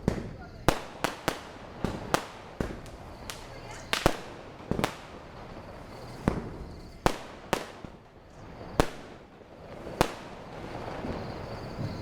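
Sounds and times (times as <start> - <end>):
firecracker bangs with echo: 0.0 - 12.0.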